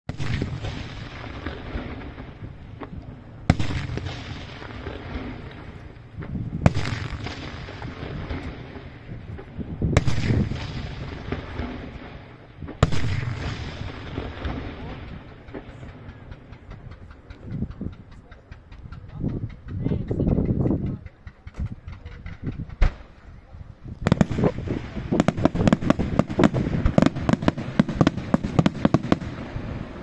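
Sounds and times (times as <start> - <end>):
fireworks bangs with echoing rumble: 0.1 - 23.2, 24.0 - 30.0.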